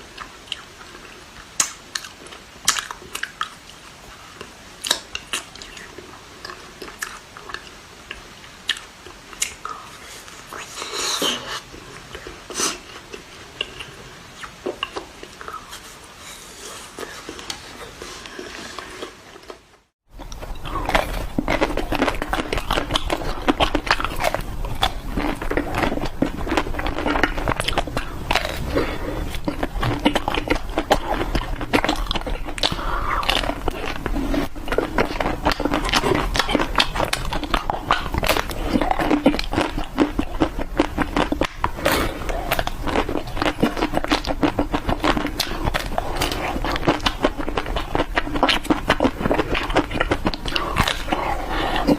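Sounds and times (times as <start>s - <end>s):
crackling chewing clicks: 0.1s - 10.9s, 19.4s - 51.9s.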